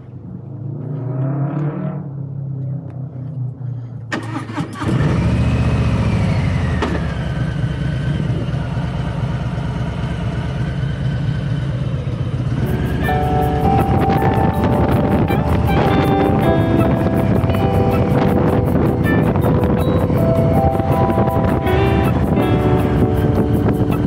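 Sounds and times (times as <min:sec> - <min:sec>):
motorcycle engine starting and running: 0:04.1 - 0:24.0.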